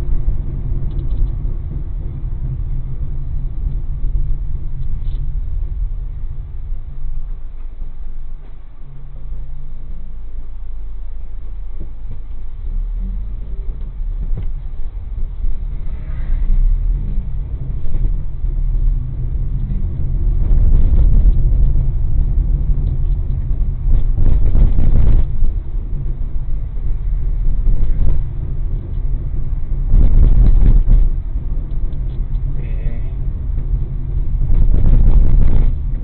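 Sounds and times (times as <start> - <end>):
car interior rumble: 0.0 - 36.0.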